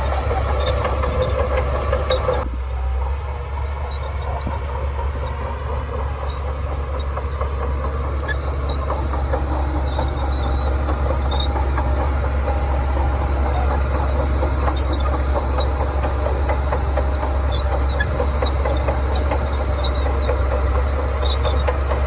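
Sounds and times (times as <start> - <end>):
bulldozer diesel engine running: 0.0 - 22.0
tracks clicking and squeaking: 0.0 - 22.0.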